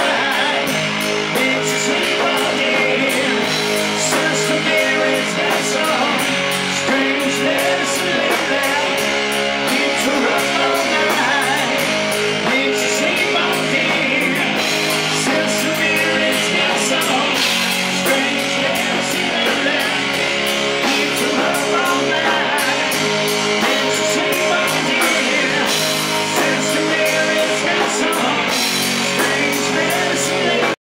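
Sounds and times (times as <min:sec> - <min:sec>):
bass guitar: 0:00.0 - 0:30.8
drums with cymbal hits: 0:00.0 - 0:30.8
electric guitars: 0:00.0 - 0:30.8.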